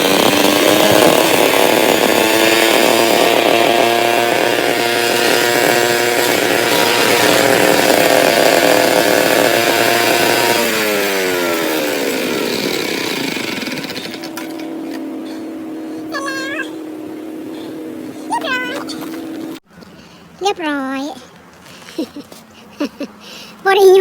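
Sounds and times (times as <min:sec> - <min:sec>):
brush cutter engine running: 0:00.0 - 0:19.6.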